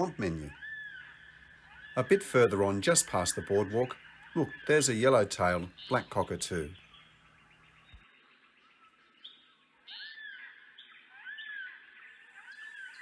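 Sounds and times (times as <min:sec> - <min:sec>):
cockatoo calling: 0:00.0 - 0:08.0, 0:08.7 - 0:13.0.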